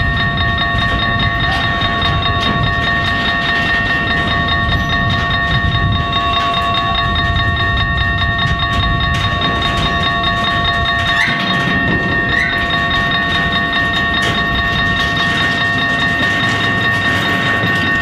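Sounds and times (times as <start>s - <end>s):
crossing warning bells ringing: 0.0s - 18.0s
train wheels rumbling: 0.0s - 18.0s
wheels clicking over rail joints: 0.0s - 18.0s.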